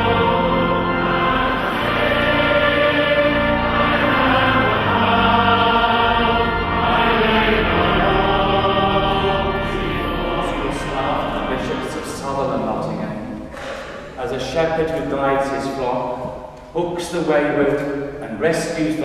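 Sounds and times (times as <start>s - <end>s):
choir singing sacred music: 0.0s - 19.0s.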